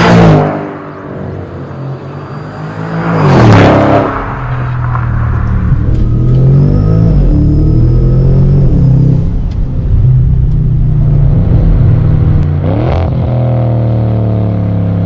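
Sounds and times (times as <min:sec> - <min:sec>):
car engine burbling and revving: 0:00.0 - 0:15.0.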